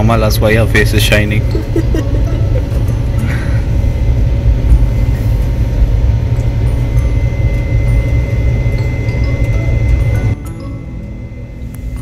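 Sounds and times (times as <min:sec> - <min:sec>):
train rumbling from inside coach: 0:00.0 - 0:10.4.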